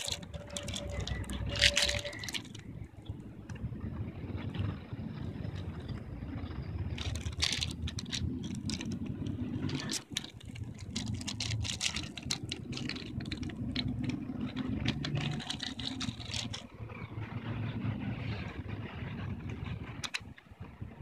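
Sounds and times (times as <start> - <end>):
sharp clicks and ticks: 0.0 - 17.0, 19.2 - 20.8
city traffic rumble: 0.0 - 21.0.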